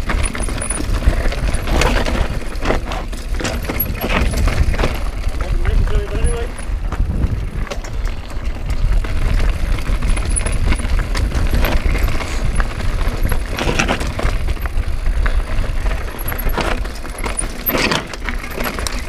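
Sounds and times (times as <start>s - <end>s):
bike rattling over bumps: 0.0s - 19.0s
bike tyres on dirt: 0.0s - 19.0s
low rumble of wind on camera: 0.0s - 19.0s.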